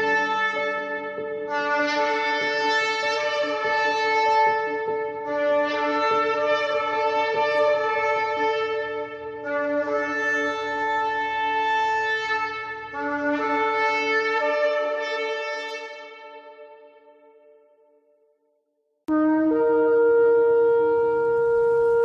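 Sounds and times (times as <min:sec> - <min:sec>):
horn tones held long: 0:00.0 - 0:16.6, 0:19.1 - 0:22.0.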